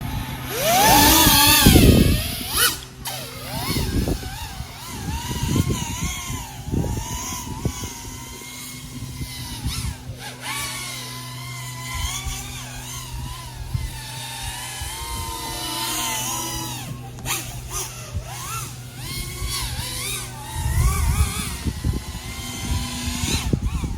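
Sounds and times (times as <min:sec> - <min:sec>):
drone motors whining: 0:00.0 - 0:23.9.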